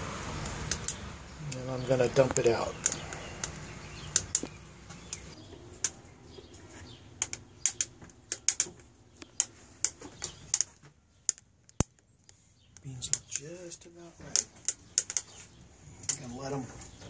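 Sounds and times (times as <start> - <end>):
coffee beans crackling: 0.0 - 17.0.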